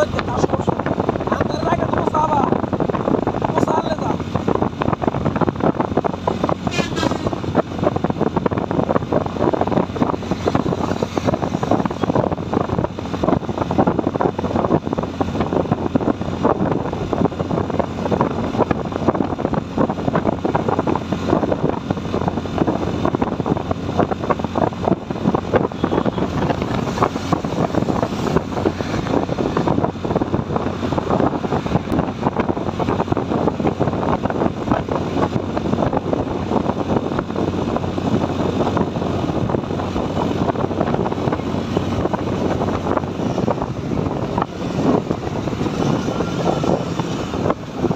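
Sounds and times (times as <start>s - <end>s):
motorcycle road rush: 0.0s - 47.9s
wind buffeting microphone: 0.0s - 47.9s.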